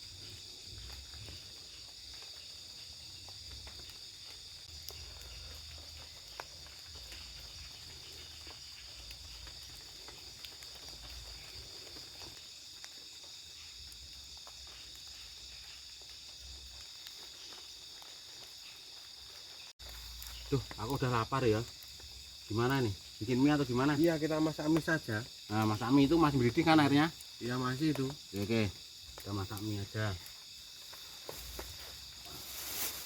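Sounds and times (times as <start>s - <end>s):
forest insects chorus: 0.0s - 33.0s.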